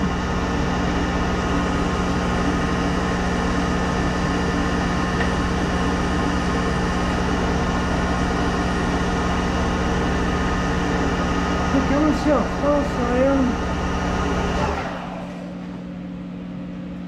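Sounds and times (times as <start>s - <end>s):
lathe tool cutting metal: 0.0s - 15.8s
lathe humming: 0.0s - 17.0s.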